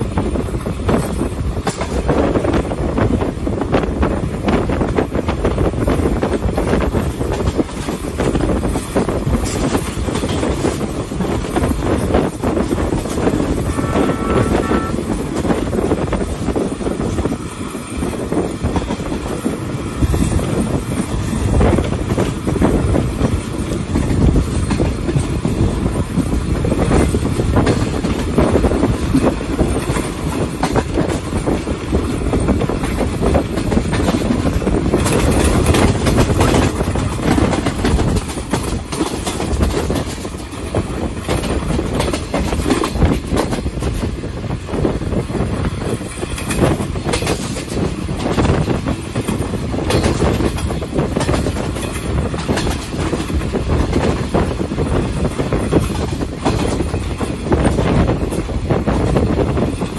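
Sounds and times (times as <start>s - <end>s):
train wheels rumbling on rails: 0.0s - 59.9s
wheels clattering over rail joints: 0.0s - 59.9s.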